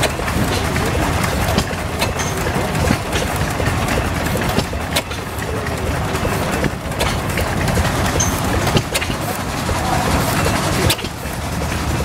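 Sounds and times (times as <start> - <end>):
engine knocks: 0.0 - 12.0
old gas engine rumbling: 0.0 - 12.0.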